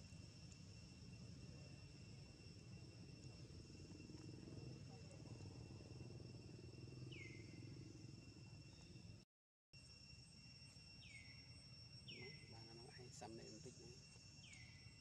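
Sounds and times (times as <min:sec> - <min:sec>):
insects droning: 0:00.0 - 0:09.2, 0:09.8 - 0:15.0.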